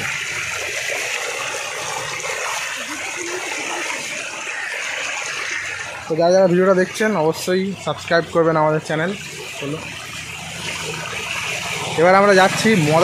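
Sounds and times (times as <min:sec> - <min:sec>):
floodwater rushing and splashing: 0:00.0 - 0:13.0.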